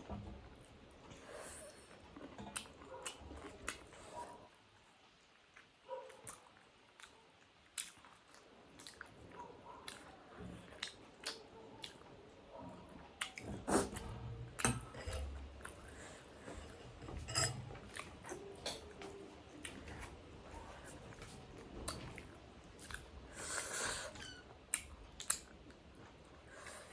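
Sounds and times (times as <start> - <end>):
people chewing food: 0.0 - 26.9.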